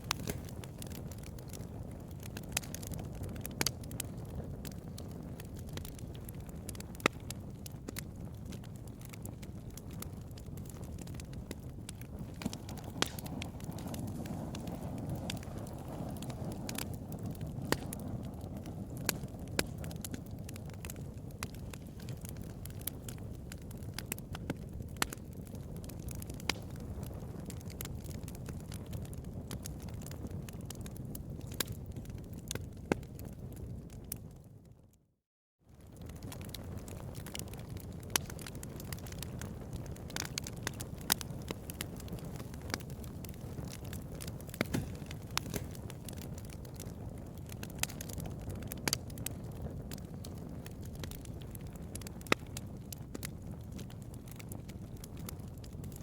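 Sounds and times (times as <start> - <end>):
bonfire crackling: 0.0 - 35.0, 35.7 - 56.0.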